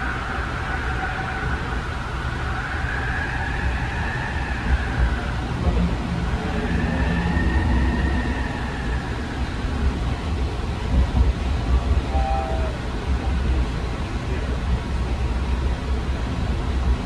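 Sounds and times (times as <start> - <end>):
faint whine: 0.0 - 17.0
train running rumble: 0.0 - 17.0.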